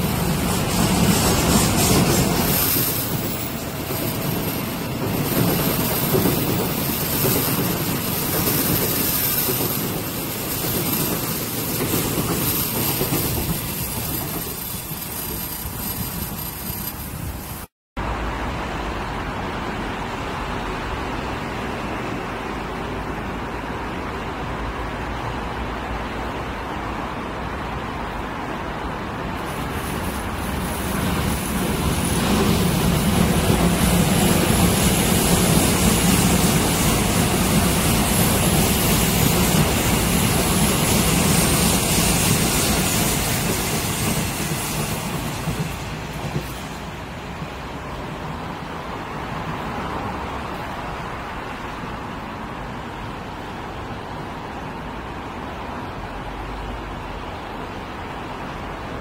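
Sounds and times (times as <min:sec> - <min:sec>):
electric train rumbling past: 0:00.0 - 0:59.0.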